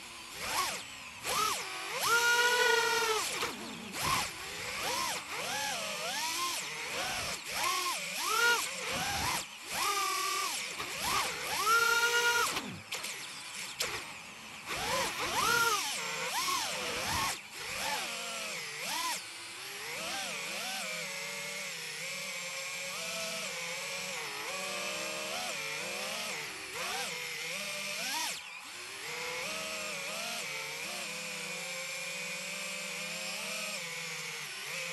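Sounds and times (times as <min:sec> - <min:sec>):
drone motors whining: 0:00.0 - 0:34.9.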